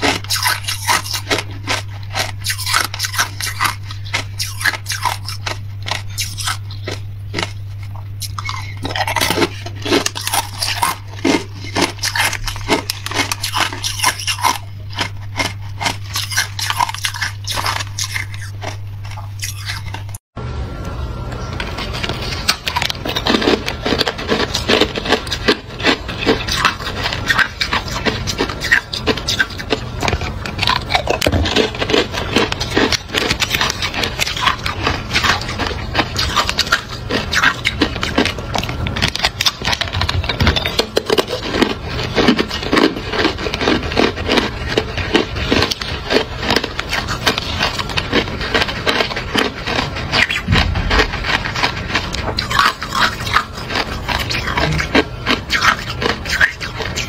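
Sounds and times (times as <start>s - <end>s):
ice being bitten and crunched: 0.0s - 20.1s, 22.4s - 57.0s.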